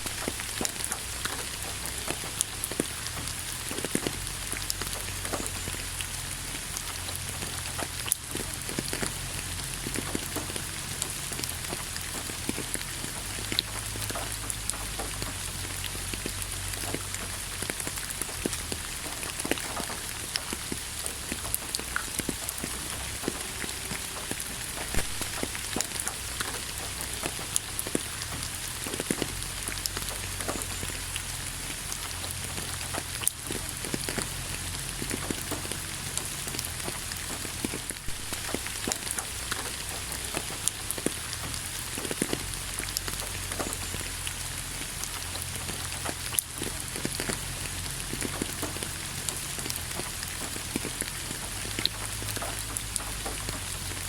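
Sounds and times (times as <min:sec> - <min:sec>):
raindrops tapping on a surface: 0:00.0 - 0:54.0.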